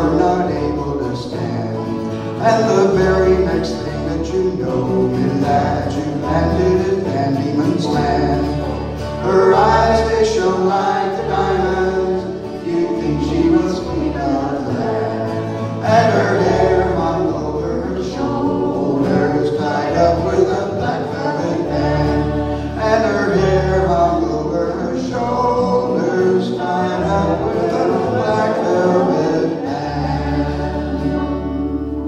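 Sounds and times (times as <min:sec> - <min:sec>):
instrumental accompaniment: 0:00.0 - 0:32.0
voices singing folk ballad: 0:00.0 - 0:32.0.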